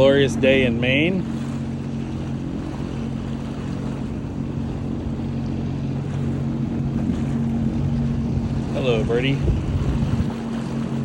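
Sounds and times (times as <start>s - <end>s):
watercraft engine humming: 0.0s - 11.0s
wind and water rushing: 0.0s - 11.0s.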